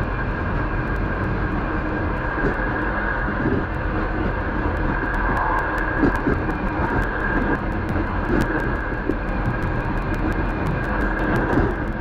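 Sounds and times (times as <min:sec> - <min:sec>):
train wheels rumbling on rails: 0:00.0 - 0:12.0
rapid light clicks: 0:00.9 - 0:12.0.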